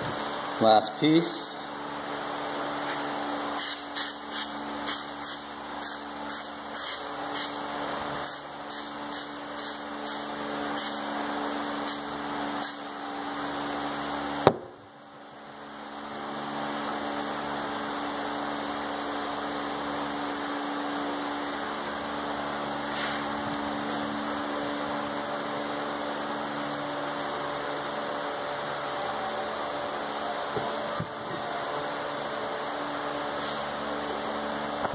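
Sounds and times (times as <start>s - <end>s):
steady hum: 0.0s - 34.9s.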